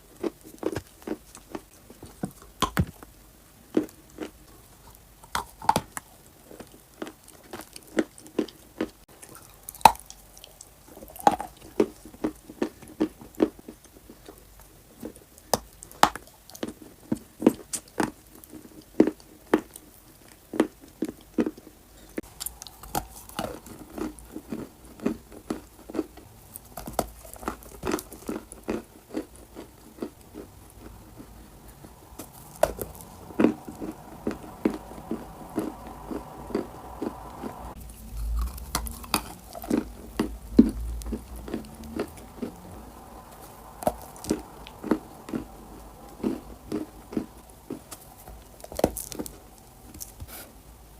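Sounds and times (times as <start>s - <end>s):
chewing crunchy clay: 0.0s - 50.5s.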